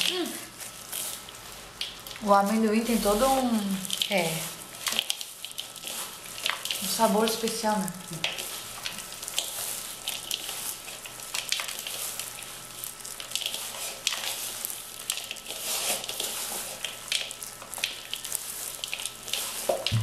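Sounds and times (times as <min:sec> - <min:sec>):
dough crackling and squishing: 0:00.0 - 0:20.0
plastic gloves rustling: 0:00.0 - 0:20.0.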